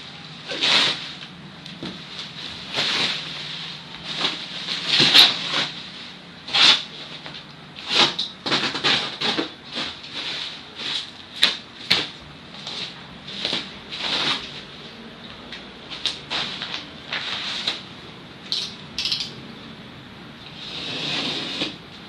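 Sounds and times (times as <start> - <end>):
cardboard scraping and rustling: 0.4 - 14.8, 15.9 - 17.9, 20.6 - 21.9.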